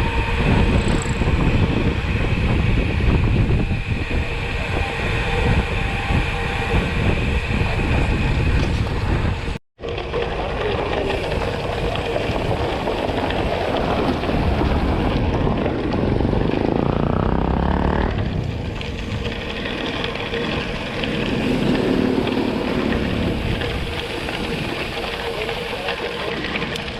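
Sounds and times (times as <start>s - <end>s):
vehicle road and wind noise: 0.0s - 26.9s.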